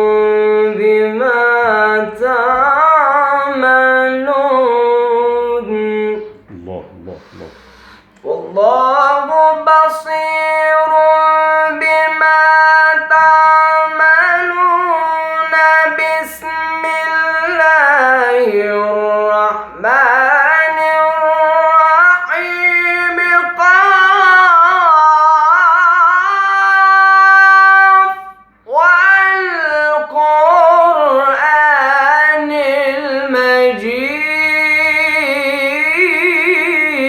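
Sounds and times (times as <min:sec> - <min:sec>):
person reciting in melismatic chant: 0:00.0 - 0:37.0.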